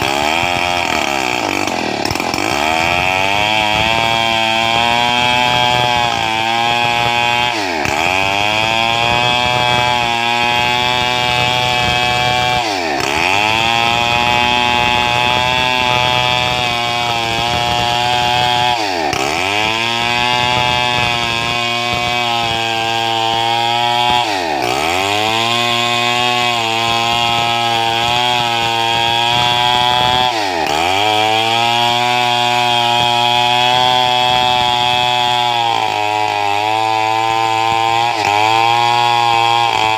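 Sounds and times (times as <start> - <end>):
chainsaw sawing boards: 0.0 - 39.9.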